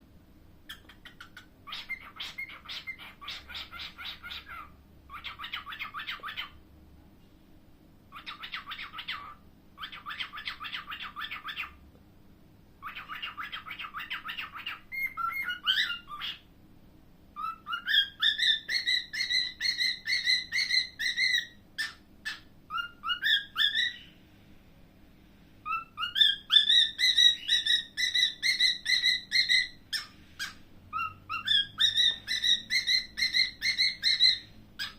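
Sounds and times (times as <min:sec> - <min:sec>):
cockatiel whistling: 0:00.7 - 0:06.5, 0:08.2 - 0:11.8, 0:12.8 - 0:16.4, 0:17.4 - 0:24.1, 0:25.6 - 0:34.9
cockatiel chattering: 0:00.7 - 0:06.6, 0:08.1 - 0:11.8, 0:12.8 - 0:16.4, 0:17.4 - 0:24.0, 0:25.7 - 0:34.9.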